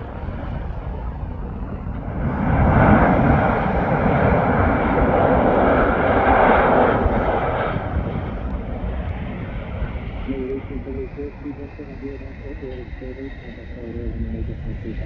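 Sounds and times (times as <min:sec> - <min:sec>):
airliner engines passing: 0:00.0 - 0:15.0.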